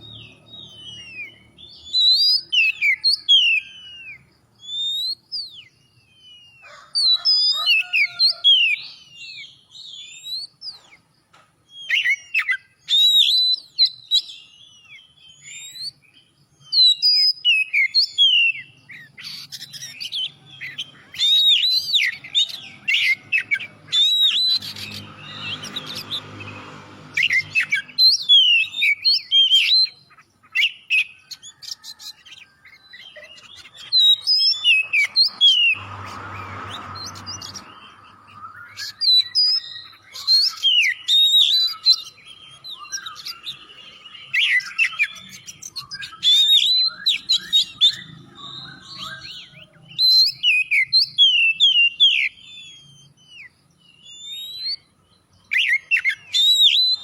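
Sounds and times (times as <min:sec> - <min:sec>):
magpie-robin singing: 0:00.0 - 0:11.0, 0:11.7 - 0:57.0.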